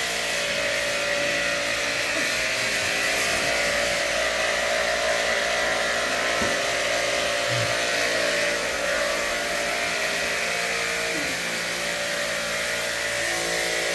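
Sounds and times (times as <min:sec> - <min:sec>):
sprayer motor hum: 0:00.0 - 0:13.9.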